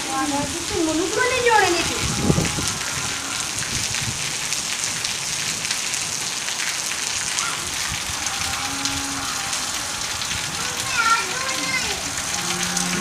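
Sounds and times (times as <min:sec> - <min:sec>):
rain splashing on wet ground: 0:00.0 - 0:13.0.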